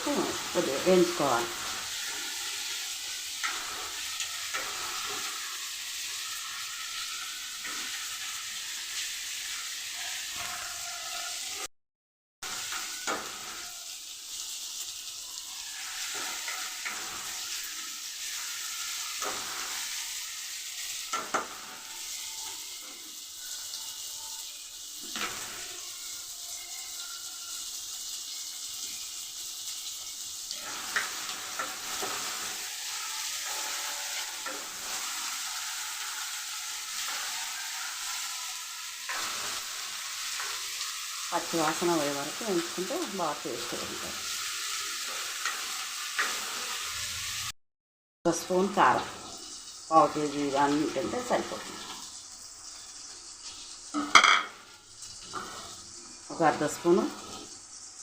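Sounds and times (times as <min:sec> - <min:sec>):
masala sizzling in oil: 0:00.0 - 0:11.7, 0:12.4 - 0:47.6, 0:48.3 - 0:58.0.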